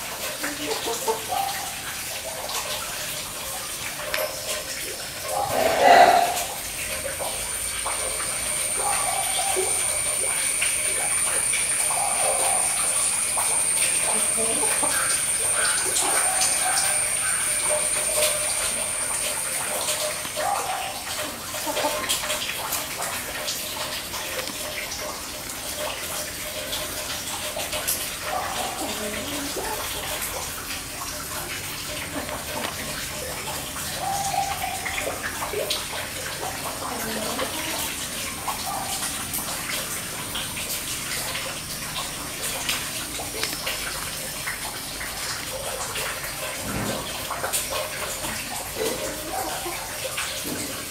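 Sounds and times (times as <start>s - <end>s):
running water rushing: 0.0s - 50.9s.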